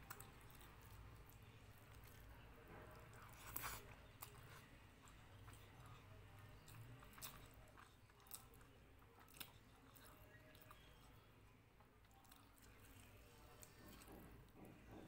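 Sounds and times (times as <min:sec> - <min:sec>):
chewing rice: 0:00.0 - 0:15.0.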